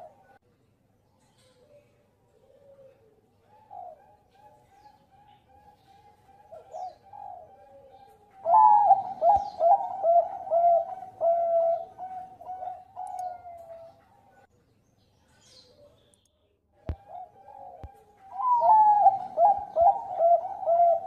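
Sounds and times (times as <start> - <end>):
dove cooing: 0.0 - 0.4, 1.5 - 14.5, 16.8 - 21.0.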